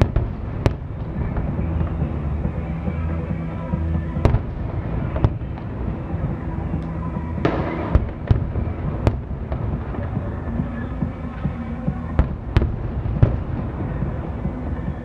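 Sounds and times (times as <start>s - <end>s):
firework crackle: 0.0s - 15.0s.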